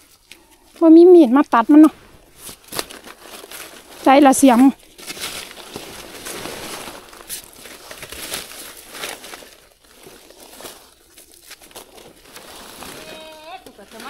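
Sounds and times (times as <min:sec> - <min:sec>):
leaf litter rustling and crinkling: 0:00.0 - 0:14.0.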